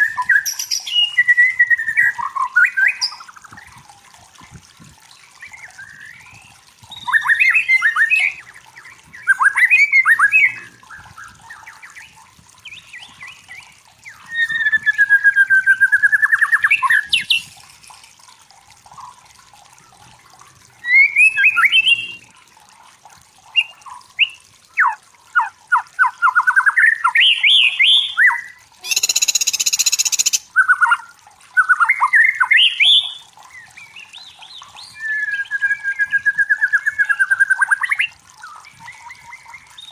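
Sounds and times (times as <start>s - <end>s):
bird singing trills and whistles: 0.0s - 3.8s, 5.1s - 17.6s, 20.8s - 22.3s, 23.5s - 39.9s.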